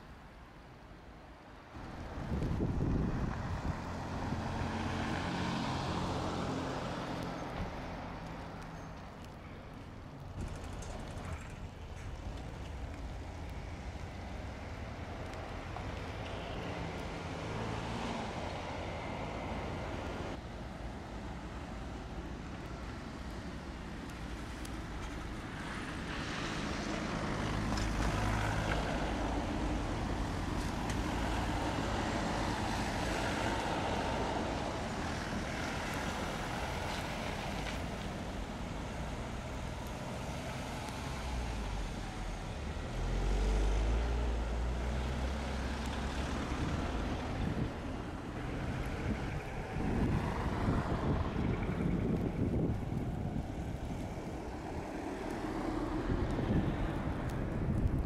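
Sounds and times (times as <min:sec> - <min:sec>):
vehicle engines rumbling: 0:01.4 - 0:58.0
tyres on snow: 0:01.7 - 0:58.0.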